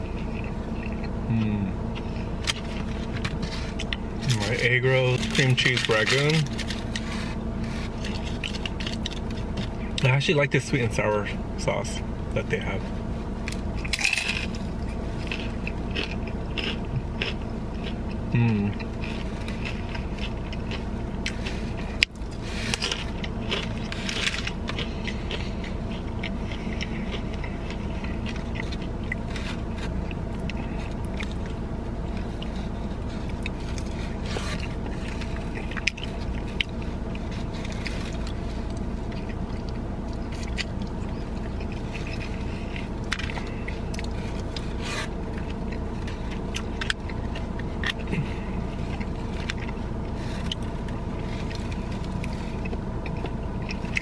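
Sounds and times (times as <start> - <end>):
chewing: 0.0 - 10.1, 13.4 - 54.0
car air conditioning blowing: 0.0 - 54.0.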